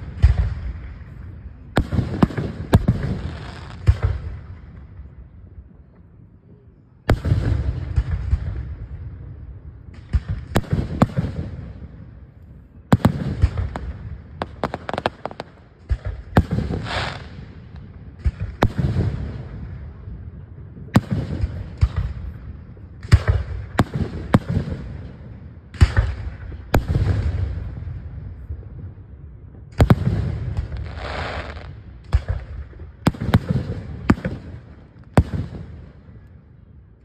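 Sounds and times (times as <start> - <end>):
fireworks bursting with rumble: 0.0 - 6.2, 6.8 - 37.0.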